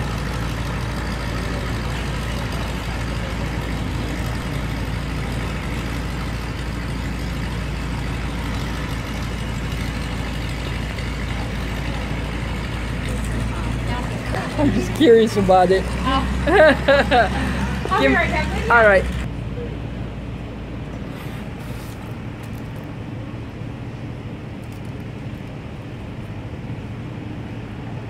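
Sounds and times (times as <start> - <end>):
propeller plane engine droning: 0.0 - 28.0.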